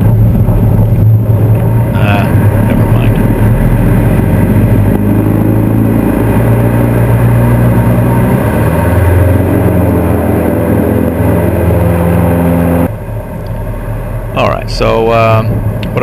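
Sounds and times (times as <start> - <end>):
aircraft engine and propeller: 0.0 - 16.0.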